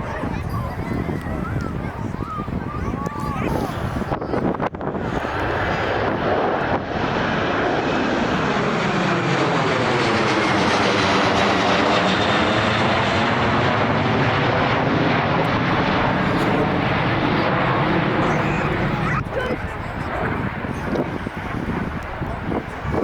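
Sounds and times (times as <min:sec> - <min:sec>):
helicopter rotor and turbine: 0:00.0 - 0:23.0.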